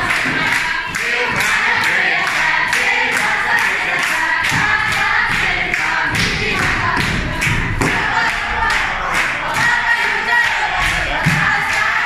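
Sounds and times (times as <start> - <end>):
girls singing together: 0.0 - 12.0.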